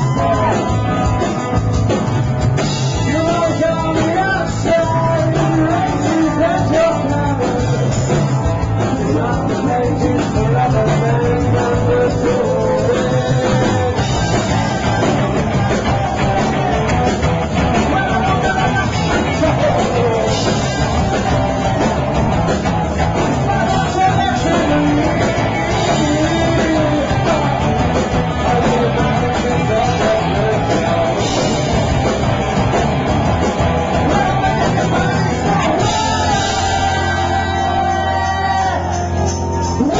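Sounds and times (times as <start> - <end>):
rock band playing with singer: 0.0 - 39.9.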